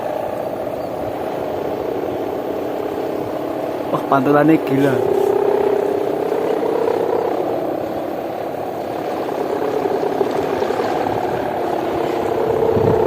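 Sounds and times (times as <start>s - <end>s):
kite hummer droning: 0.0s - 13.0s.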